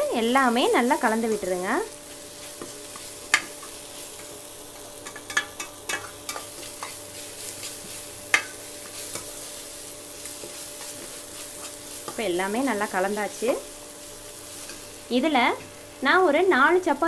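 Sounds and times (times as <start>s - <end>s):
frying sizzle: 0.0s - 17.0s.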